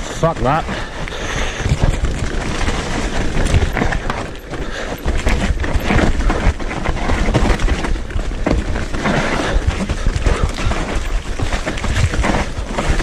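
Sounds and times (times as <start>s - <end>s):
bike rattling and knocking: 0.0s - 13.0s
tyres rolling on earth and leaves: 0.0s - 13.0s.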